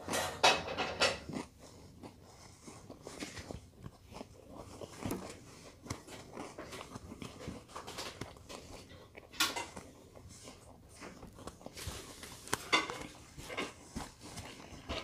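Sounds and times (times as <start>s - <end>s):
child chewing cereal: 0.0s - 15.0s.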